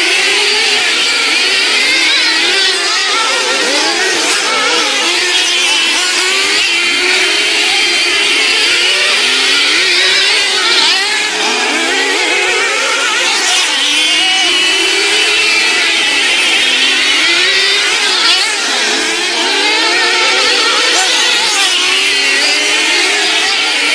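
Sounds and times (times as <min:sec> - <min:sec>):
racing engines revving: 0:00.0 - 0:23.9.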